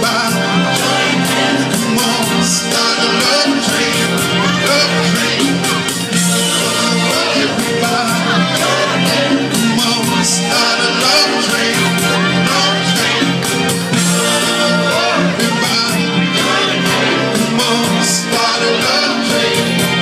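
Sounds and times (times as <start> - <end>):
guitar: 0.0 - 20.0
held bass notes: 0.0 - 20.0
man singing: 0.0 - 20.0
steady beat: 0.0 - 20.0.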